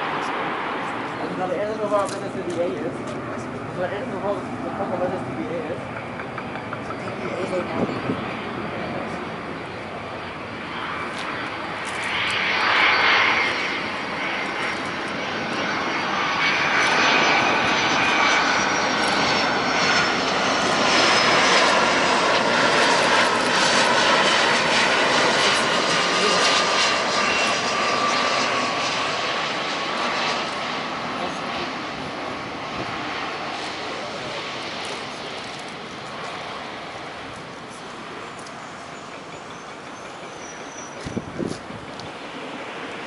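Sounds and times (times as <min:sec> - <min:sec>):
jet engines whining and rushing: 0:00.0 - 0:43.0.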